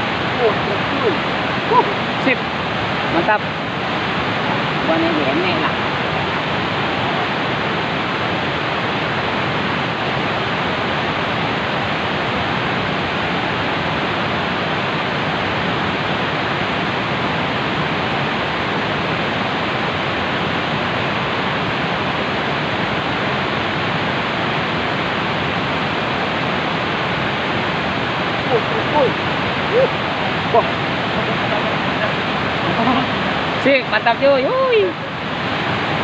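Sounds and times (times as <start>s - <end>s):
fast-flowing river water: 0.0s - 36.0s.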